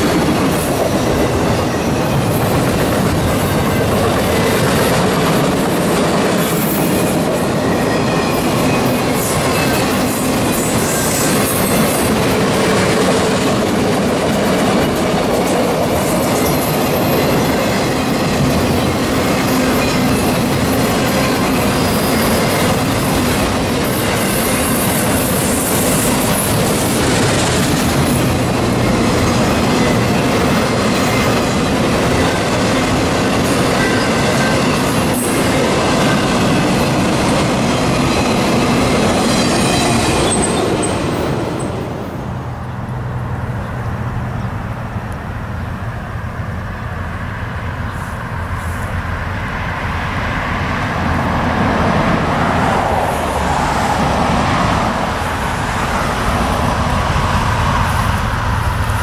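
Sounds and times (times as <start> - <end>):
steel wheels rushing on rail: 0.0 - 59.0.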